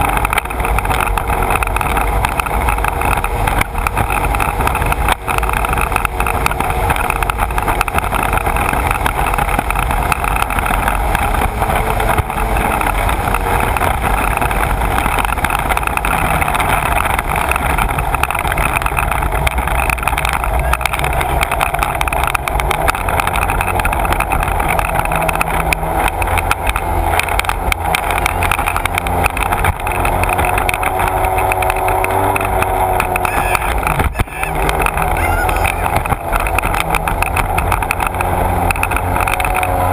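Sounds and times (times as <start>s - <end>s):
personal watercraft engine: 0.0s - 39.9s.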